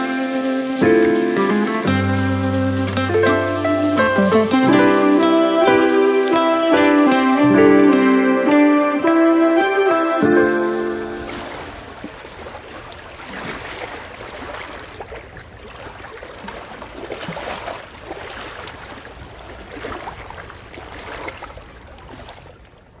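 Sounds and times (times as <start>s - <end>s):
sea water lapping and splashing: 0.8s - 23.0s.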